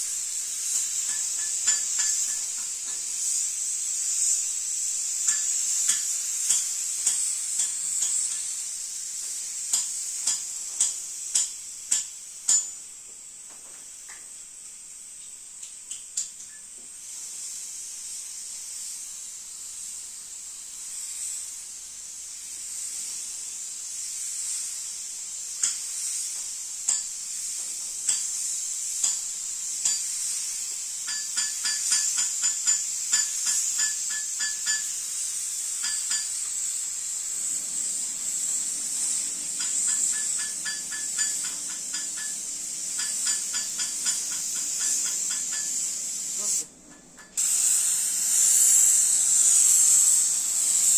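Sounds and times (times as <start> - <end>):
spray gun hissing: 0.0 - 12.9, 16.9 - 50.9.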